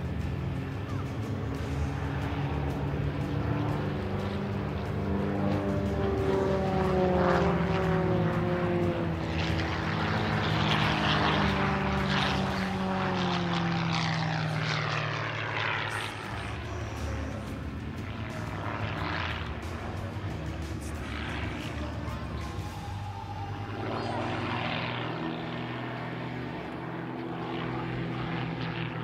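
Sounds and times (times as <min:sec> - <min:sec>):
propeller plane engine: 0:00.0 - 0:29.0.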